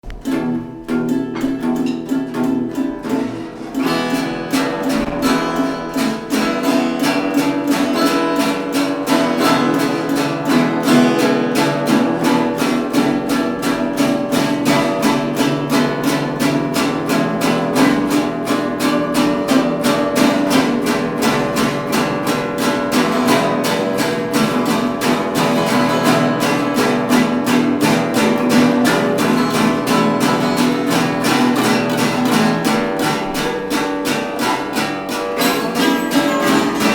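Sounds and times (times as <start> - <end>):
acoustic blues band: 0.0 - 36.9
strummed acoustic guitar: 0.0 - 36.9.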